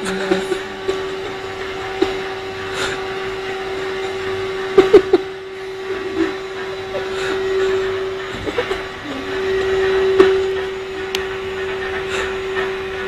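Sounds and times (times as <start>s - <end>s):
vacuum cleaner whining hum: 0.0s - 13.0s.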